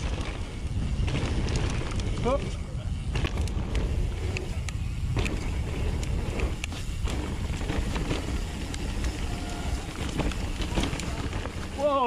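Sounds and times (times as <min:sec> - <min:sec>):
bike clicks and knocks: 0:00.0 - 0:12.0
tyres and wind rumble: 0:00.0 - 0:12.0.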